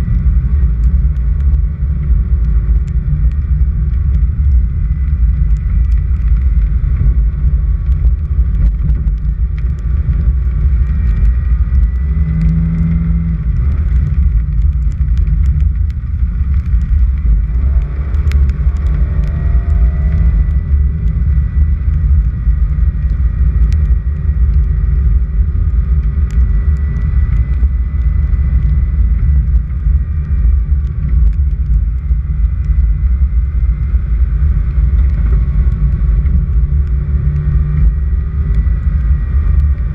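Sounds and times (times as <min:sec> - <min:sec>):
car rumbling on dirt road: 0:00.0 - 0:39.9
small ticks: 0:00.0 - 0:39.9.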